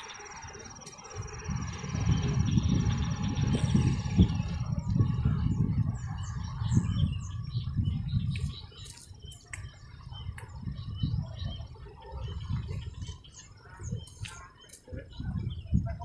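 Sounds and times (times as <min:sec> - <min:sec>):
small birds chirping: 0:00.0 - 0:16.0
wind rumble on microphone: 0:00.0 - 0:16.0.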